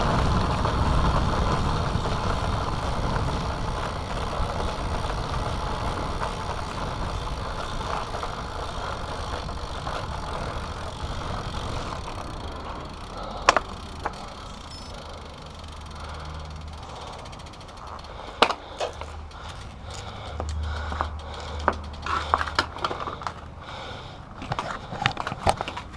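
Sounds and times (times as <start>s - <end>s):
wind and road noise rumble: 0.0s - 25.9s.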